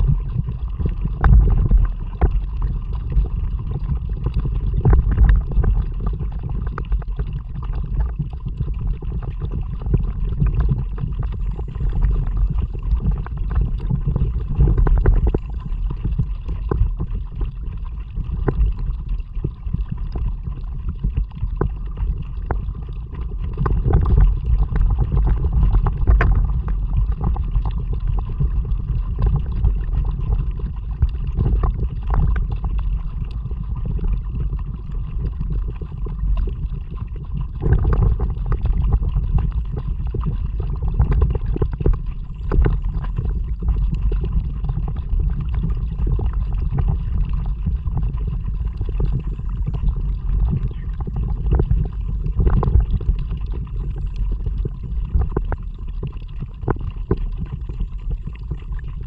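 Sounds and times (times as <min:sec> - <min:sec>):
water splashing around kayak: 0:00.0 - 0:59.0
wind rumble on microphone: 0:00.0 - 0:59.0.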